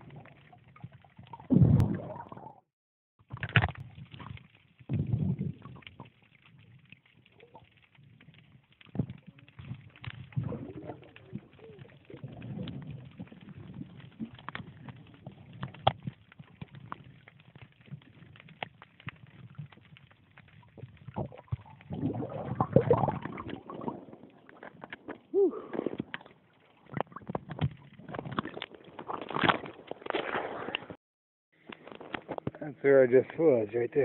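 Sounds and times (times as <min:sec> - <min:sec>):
rushing gurgling water underwater: 0:00.0 - 0:02.6, 0:03.2 - 0:31.0.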